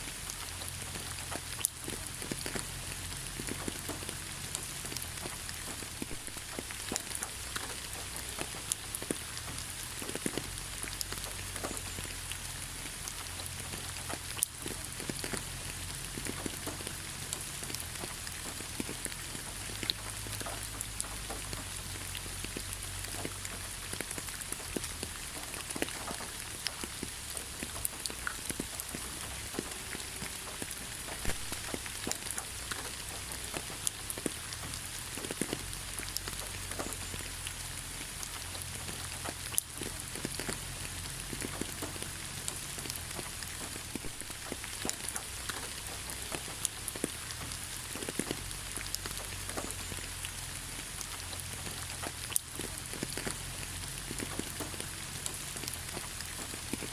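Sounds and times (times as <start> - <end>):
rain on foliage: 0.0 - 56.9
drops pattering on leaves: 0.1 - 56.9.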